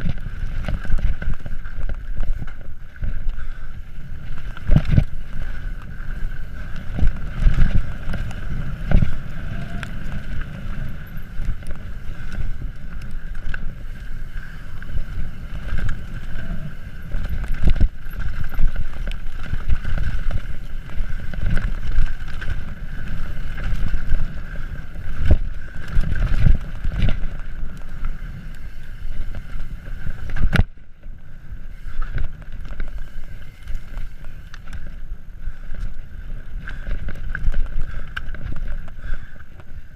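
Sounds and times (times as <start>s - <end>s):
bike knocking and rattling on rocks: 0.0s - 39.9s
wind rushing over microphone: 0.0s - 39.9s.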